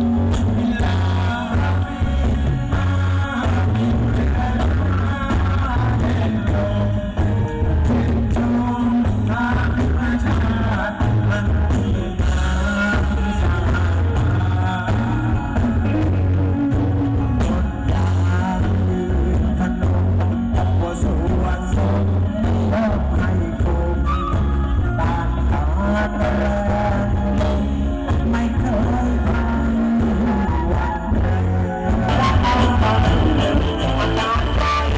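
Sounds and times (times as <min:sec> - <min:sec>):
bass guitar: 0:00.0 - 0:34.9
person singing: 0:00.0 - 0:34.9
rock band playing: 0:00.0 - 0:34.9.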